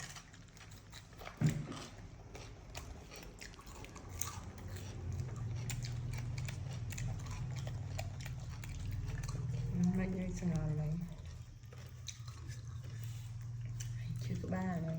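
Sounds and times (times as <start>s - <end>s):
low steady hum: 0.0s - 14.9s
monkey chewing clicks: 0.0s - 14.9s.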